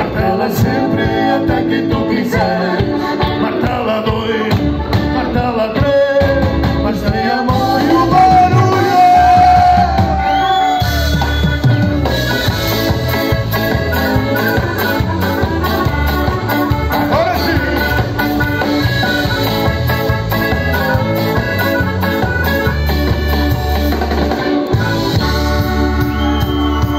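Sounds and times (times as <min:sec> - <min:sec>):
accordion: 0:00.0 - 0:26.9
live band playing dance music: 0:00.0 - 0:26.9.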